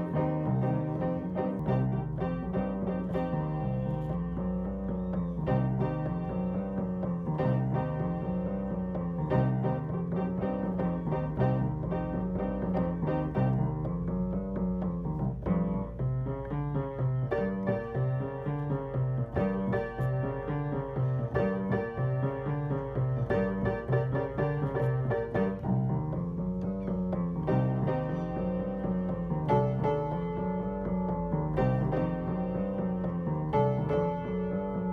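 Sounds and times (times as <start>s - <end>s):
piano music: 0.0s - 34.9s.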